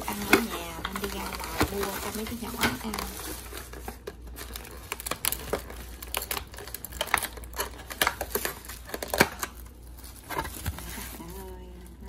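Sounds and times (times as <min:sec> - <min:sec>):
plastic bags crinkling: 0:00.0 - 0:12.0
plastic clamshell box crackling: 0:00.0 - 0:12.0.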